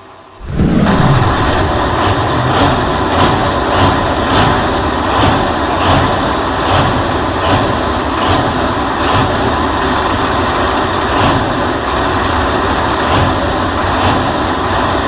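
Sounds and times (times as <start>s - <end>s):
tractor engine under full load: 0.4s - 15.0s.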